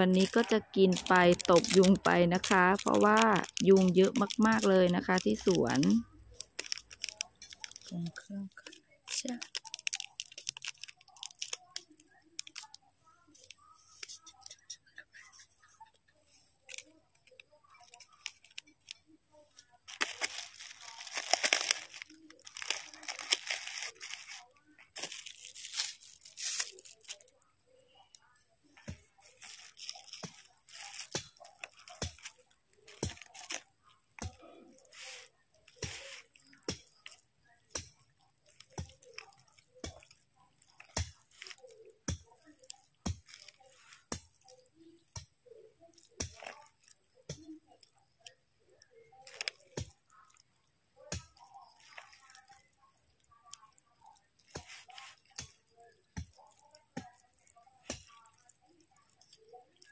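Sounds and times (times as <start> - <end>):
rustling and tearing: 0.0 - 14.5, 15.4 - 27.4, 28.8 - 48.4, 49.2 - 53.2, 54.0 - 59.9
close chewing of noodles: 0.0 - 59.9.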